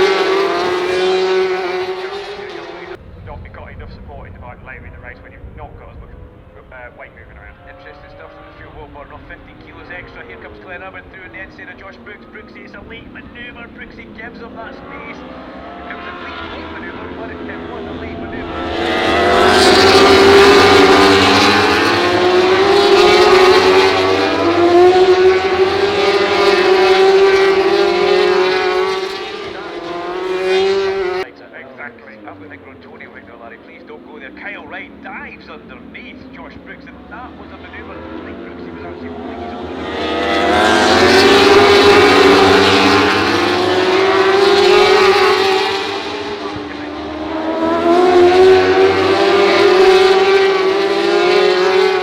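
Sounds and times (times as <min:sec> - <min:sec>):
race motorcycle engines revving: 0:00.0 - 0:52.0.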